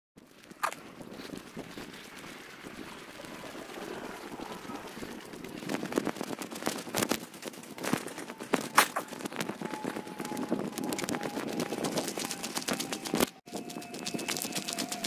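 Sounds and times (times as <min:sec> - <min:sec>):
footsteps on tarmac: 0:00.2 - 0:15.0.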